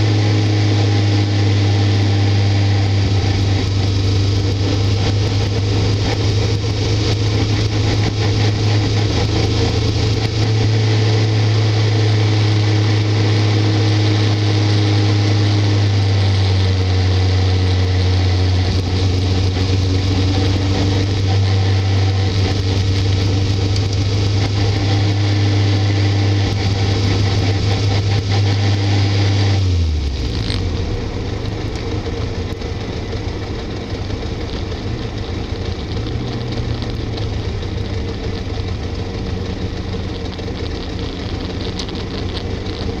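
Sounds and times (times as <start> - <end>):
car engine running: 0.0 - 43.0.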